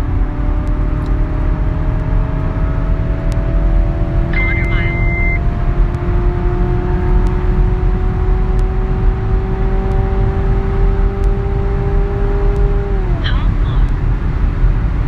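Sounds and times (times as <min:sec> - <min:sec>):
car engine accelerating: 0:00.0 - 0:15.0
road and wind rumble: 0:00.0 - 0:15.0.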